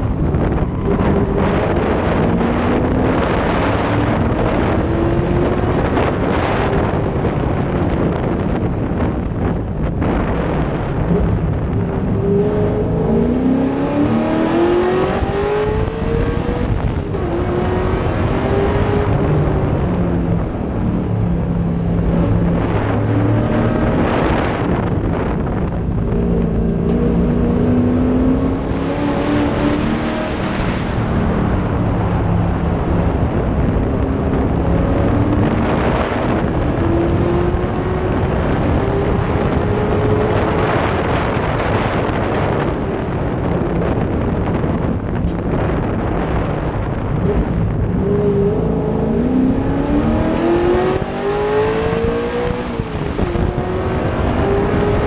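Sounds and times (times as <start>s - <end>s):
race car engine accelerating: 0.0s - 55.0s
wind rushing over microphone: 0.0s - 55.0s.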